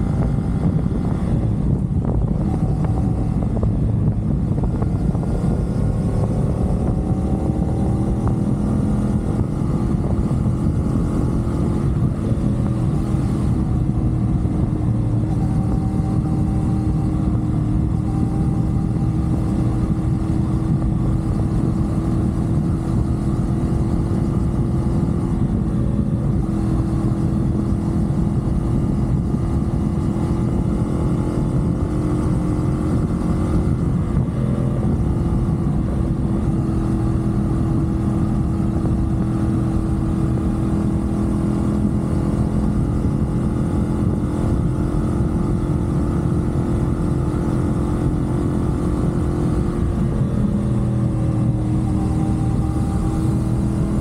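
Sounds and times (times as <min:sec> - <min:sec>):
motorcycle engine droning: 0:00.0 - 0:54.0
steady rushing noise: 0:00.0 - 0:54.0.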